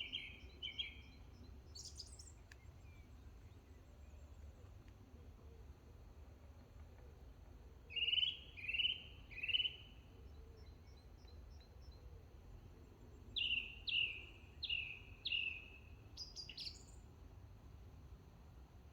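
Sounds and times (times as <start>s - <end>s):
low background noise: 0.0s - 18.9s.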